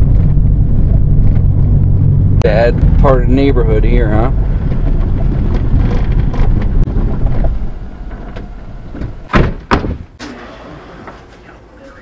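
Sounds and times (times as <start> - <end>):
road noise: 0.0 - 12.0
truck engine rumble from cab: 0.0 - 12.0.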